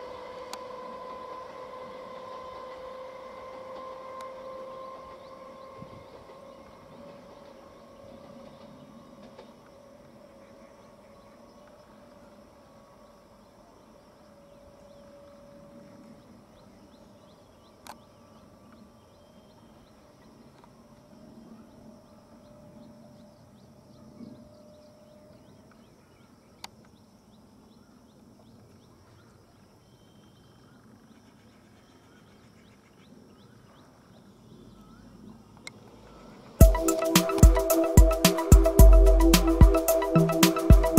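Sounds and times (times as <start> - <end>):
distant bird calls: 0.0 - 40.9.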